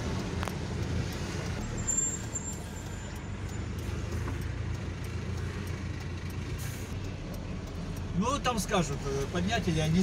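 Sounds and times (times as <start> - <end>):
road traffic passing: 0.0 - 10.0
vehicle engine rumble: 0.0 - 10.0.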